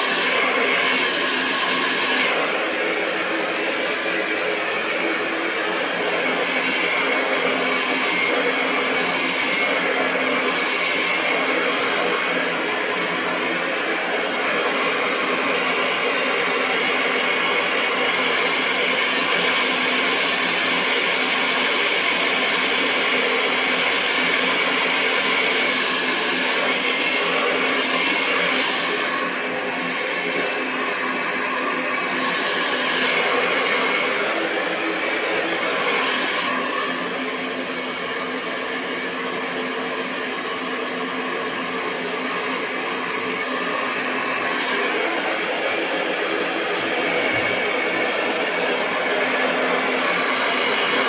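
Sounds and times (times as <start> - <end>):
hair dryer running: 0.0 - 51.0.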